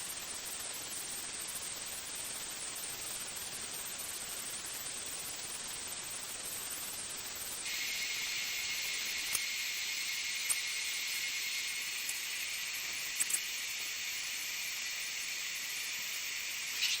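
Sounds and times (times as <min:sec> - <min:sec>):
machine hiss: 0:00.0 - 0:17.0.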